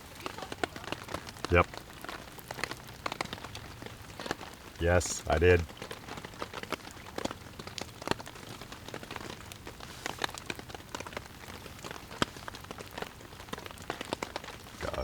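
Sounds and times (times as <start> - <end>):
drops tapping and dripping: 0.0 - 15.0
rain falling: 0.0 - 15.0.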